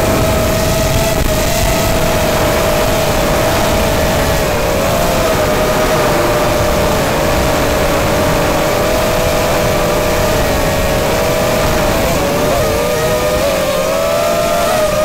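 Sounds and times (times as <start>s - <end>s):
drone propellers whining: 0.0s - 15.0s
wind rush: 0.0s - 15.0s.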